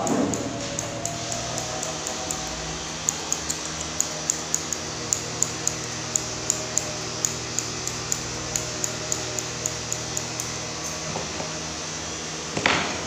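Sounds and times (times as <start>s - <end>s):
scissors snipping fur: 0.0s - 10.6s
steady hum: 0.0s - 13.0s.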